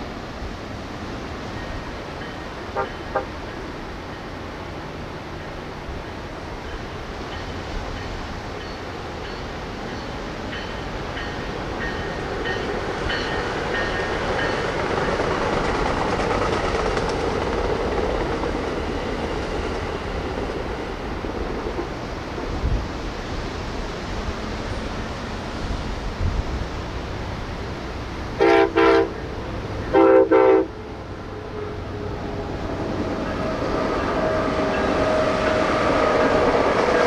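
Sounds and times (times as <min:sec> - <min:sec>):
diesel train passing: 0:00.0 - 0:37.0.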